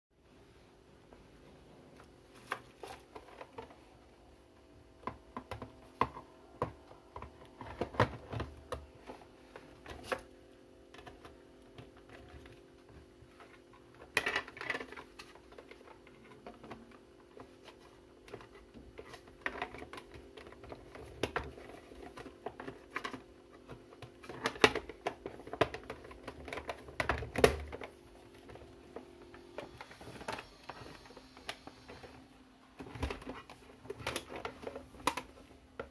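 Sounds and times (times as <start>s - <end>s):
faint steady hum: 0.2s - 35.9s.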